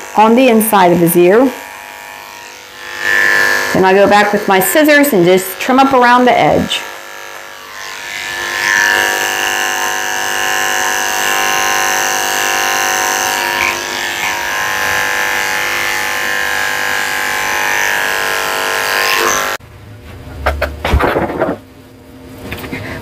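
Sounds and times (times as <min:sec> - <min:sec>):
electric clippers humming: 0:00.0 - 0:19.6.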